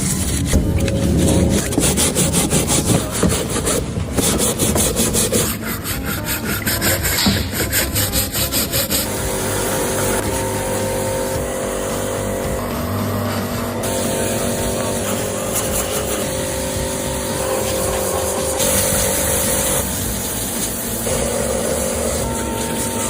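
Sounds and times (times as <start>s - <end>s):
hand tool rasping: 0.0s - 10.6s, 11.4s - 23.0s
steady hum: 0.0s - 23.0s.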